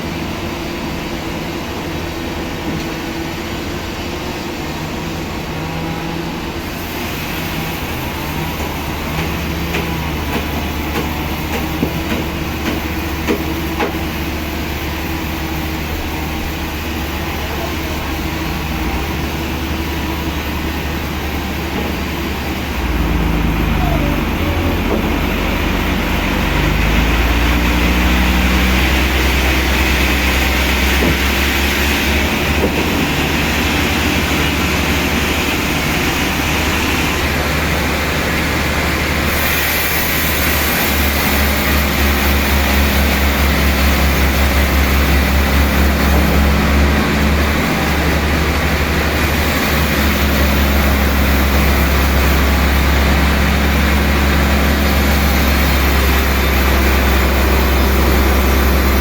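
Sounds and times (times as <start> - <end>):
heavy machinery engine humming: 0.0 - 59.0.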